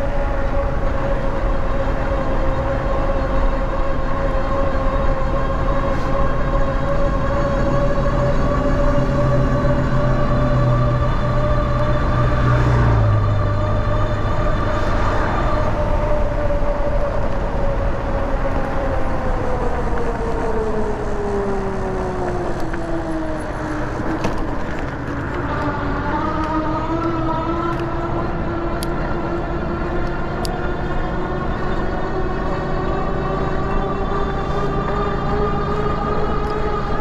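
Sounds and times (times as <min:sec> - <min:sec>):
electric motor whine: 0:00.3 - 0:37.0.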